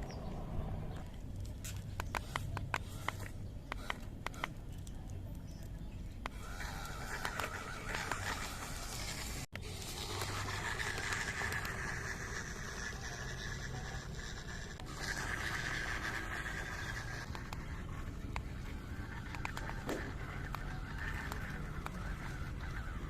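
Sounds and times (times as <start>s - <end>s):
toy car electric motor whining: 2.1s - 4.6s, 6.2s - 23.0s.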